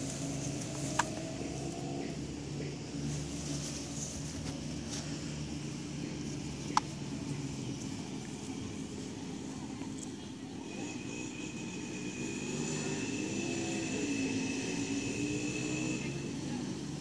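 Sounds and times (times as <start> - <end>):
motor droning with high whine: 0.0 - 17.0.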